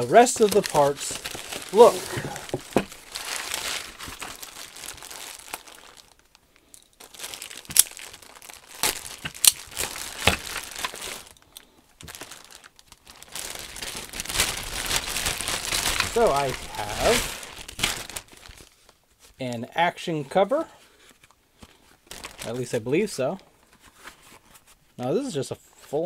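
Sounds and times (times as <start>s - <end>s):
plastic bags and paper crinkling: 0.0s - 19.4s, 21.0s - 26.0s.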